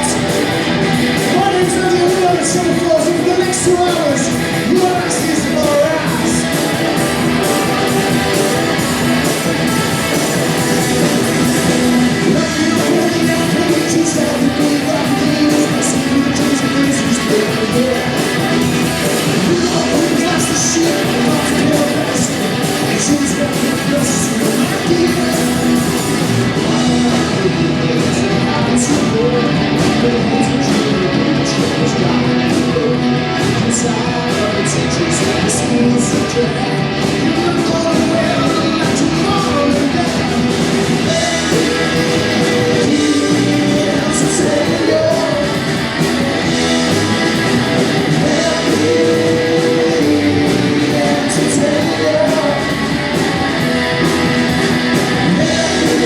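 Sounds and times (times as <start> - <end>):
live rock band: 0.0 - 56.0
person singing: 0.0 - 56.0.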